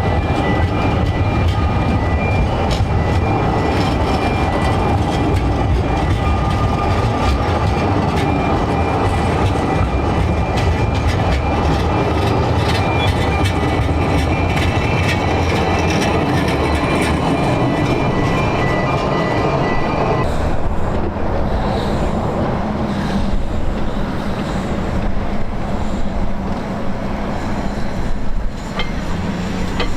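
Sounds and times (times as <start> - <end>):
train rumbling: 0.0 - 29.9
wheels clicking on rails: 0.0 - 29.9.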